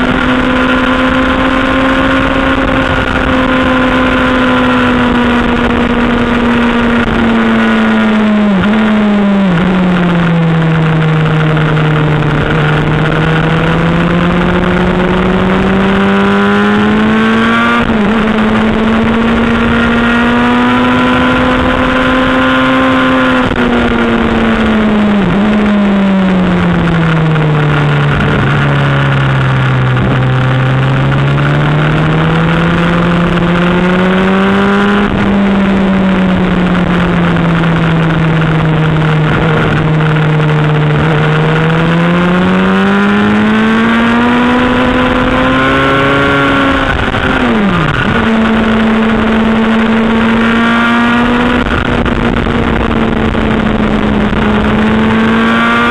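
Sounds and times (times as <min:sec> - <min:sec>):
motorcycle engine: 0:00.0 - 0:55.9
wind rush: 0:00.0 - 0:55.9.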